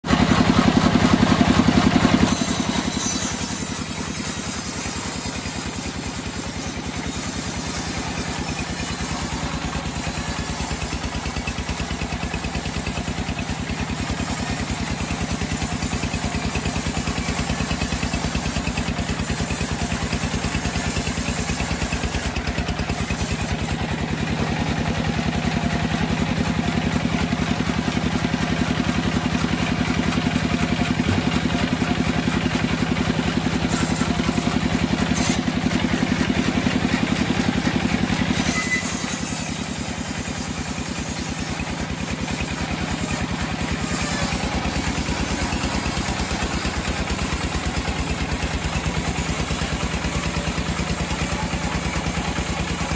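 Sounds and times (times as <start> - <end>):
bandsaw cutting through log: 0.0 - 52.9.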